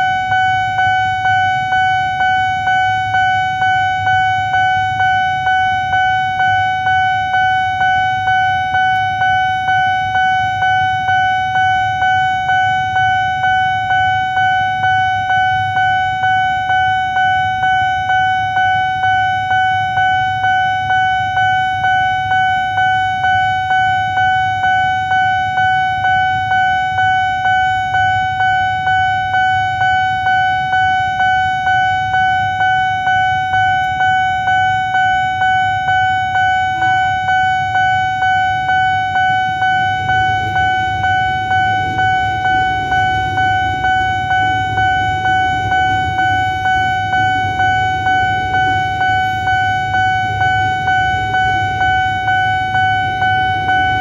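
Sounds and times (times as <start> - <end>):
level crossing electronic bell alarm: 0.0 - 54.0.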